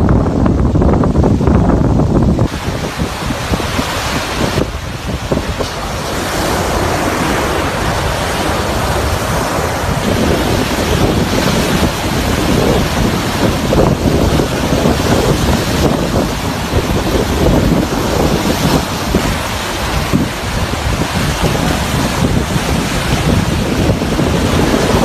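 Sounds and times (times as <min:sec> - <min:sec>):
surf breaking on beach: 0:00.0 - 0:25.0
wind blowing on microphone: 0:00.0 - 0:25.0.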